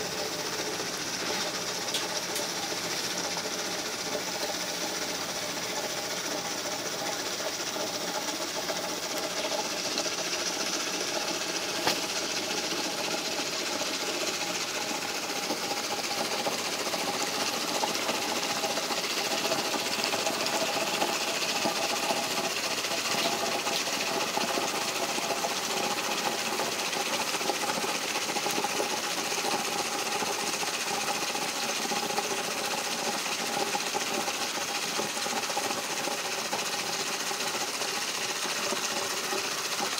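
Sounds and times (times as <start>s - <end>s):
dishwasher running: 0.0s - 39.9s.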